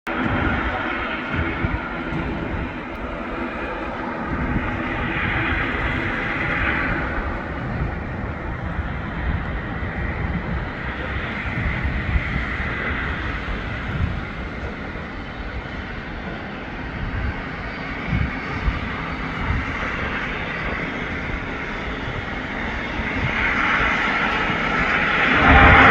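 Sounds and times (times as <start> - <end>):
turboprop engines running: 0.1 - 25.9.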